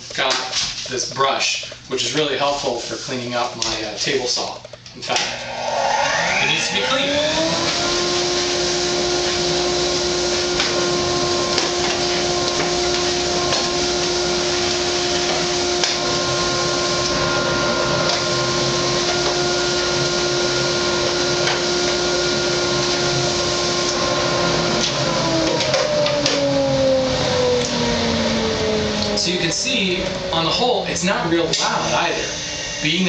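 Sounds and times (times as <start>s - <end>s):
dust collector whining: 5.1s - 33.0s.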